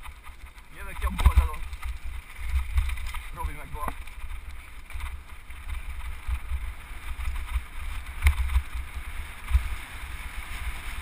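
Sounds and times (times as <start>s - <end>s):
bike rattling over stones: 0.0s - 11.0s
wind buffeting microphone: 0.0s - 11.0s.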